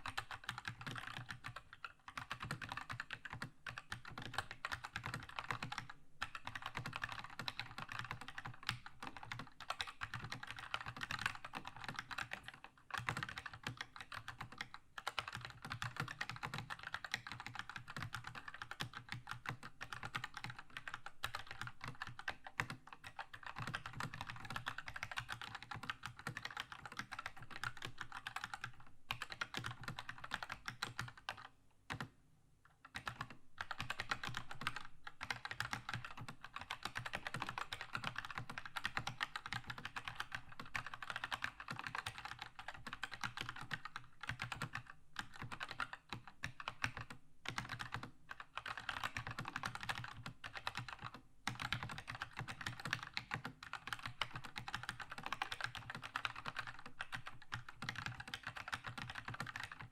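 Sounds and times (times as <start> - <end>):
fast mechanical keyboard typing: 0.0 - 32.1, 32.9 - 59.9.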